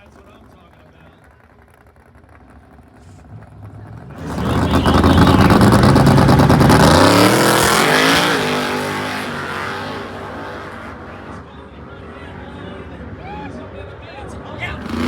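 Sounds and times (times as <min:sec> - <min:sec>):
drag racing car accelerating: 0:00.0 - 0:15.0.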